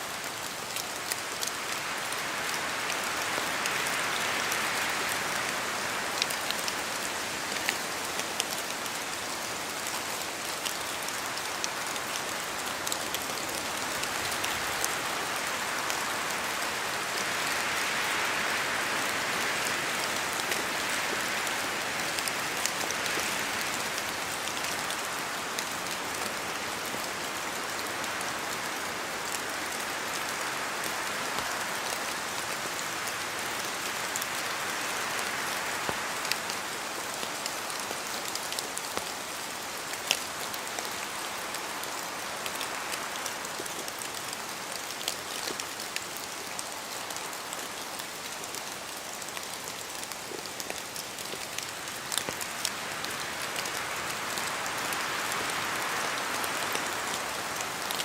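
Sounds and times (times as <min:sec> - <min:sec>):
rain in forest: 0:00.0 - 0:58.0
raindrops pattering from trees: 0:00.0 - 0:58.0.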